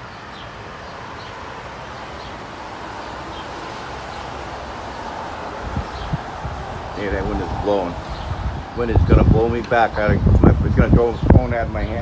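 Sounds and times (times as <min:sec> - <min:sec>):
traffic on wet street: 0:00.0 - 0:12.0
wind buffeting microphone: 0:02.0 - 0:12.0.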